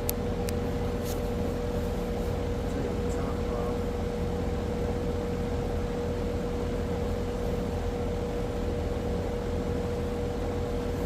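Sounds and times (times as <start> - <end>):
air conditioner unit running: 0.0 - 11.0.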